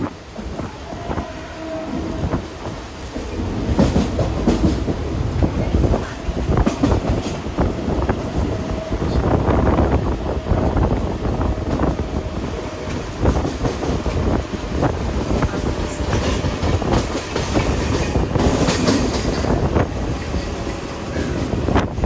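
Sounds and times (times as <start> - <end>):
wheels clacking over rail joints: 0.0 - 9.2, 10.7 - 22.0
train rumbling: 0.0 - 22.0.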